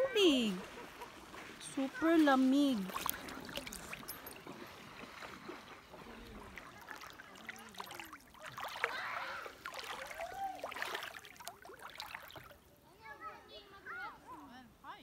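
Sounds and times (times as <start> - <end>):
lake water lapping and splashing: 0.0 - 14.6
faint distant voices: 0.0 - 15.0.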